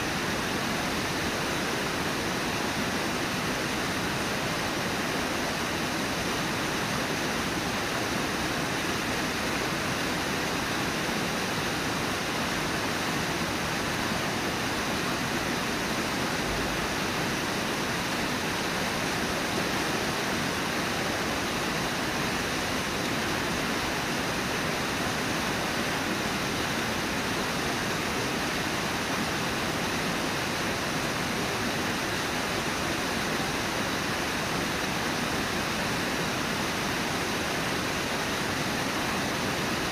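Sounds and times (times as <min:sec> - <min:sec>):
river water rushing over falls: 0:00.0 - 0:39.9.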